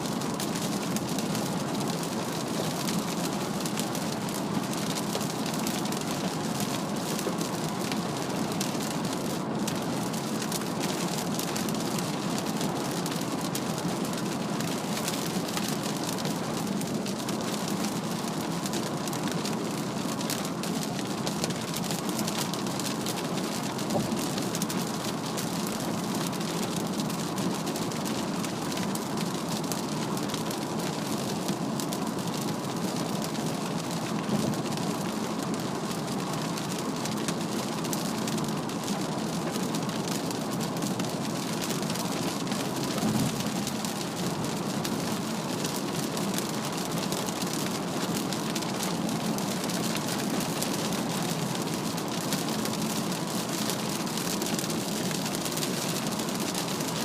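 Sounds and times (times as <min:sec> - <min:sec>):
heavy rain on car body: 0:00.0 - 0:57.0.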